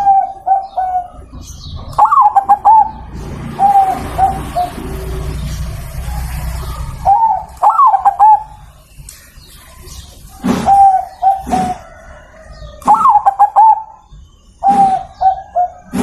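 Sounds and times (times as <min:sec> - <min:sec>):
dove cooing: 0:00.0 - 0:05.4, 0:06.0 - 0:08.8, 0:10.3 - 0:16.0.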